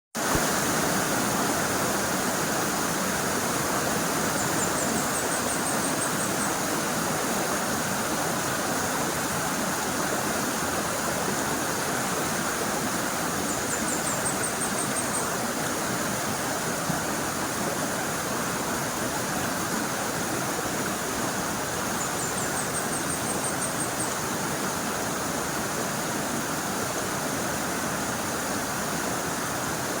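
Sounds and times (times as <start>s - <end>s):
river water rushing: 0.2s - 30.0s.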